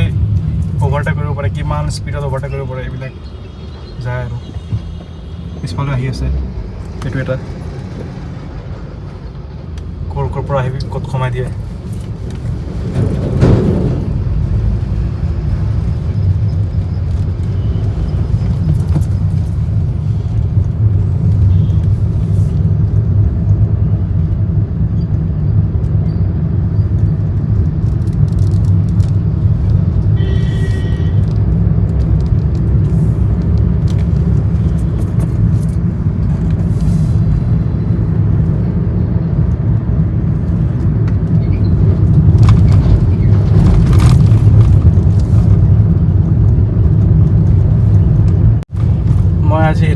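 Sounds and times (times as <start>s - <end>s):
car engine and road rumble: 0.0s - 49.9s.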